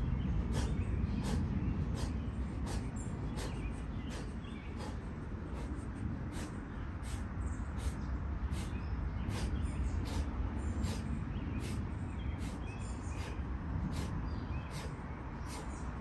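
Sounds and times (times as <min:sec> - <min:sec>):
low outdoor rumble: 0:00.0 - 0:16.0
man breathing hard: 0:00.0 - 0:16.0.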